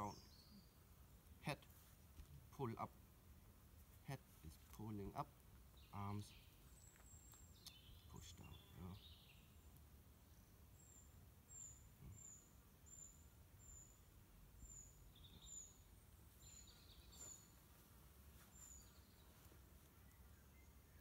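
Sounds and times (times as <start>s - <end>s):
small bird calling: 3.9s - 21.0s.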